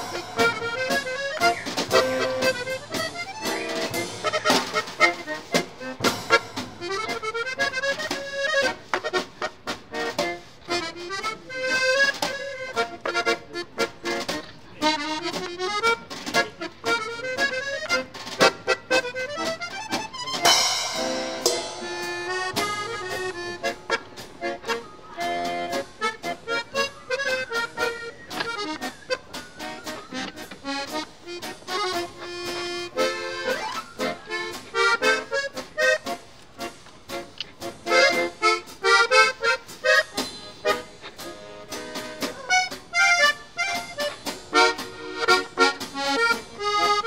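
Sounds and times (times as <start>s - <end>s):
instrumental music with beat: 0.0s - 47.0s.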